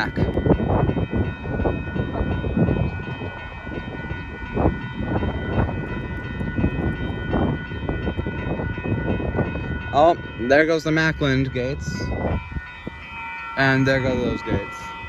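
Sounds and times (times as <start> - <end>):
crossing warning bells ringing: 0.0 - 15.0
traffic: 0.0 - 15.0
wind rumble: 0.0 - 15.0.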